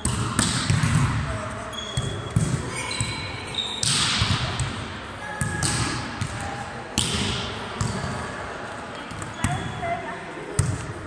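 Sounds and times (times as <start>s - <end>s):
volleyball slaps echoing in hall: 0.0s - 11.0s.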